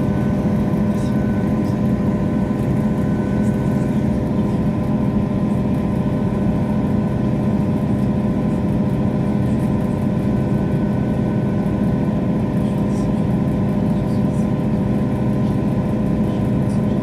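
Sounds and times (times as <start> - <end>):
diesel train engine droning: 0.0 - 17.0.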